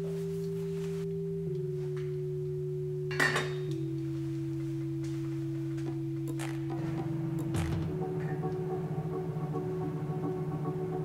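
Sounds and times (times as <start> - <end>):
soft background music chords: 0.0 - 11.0.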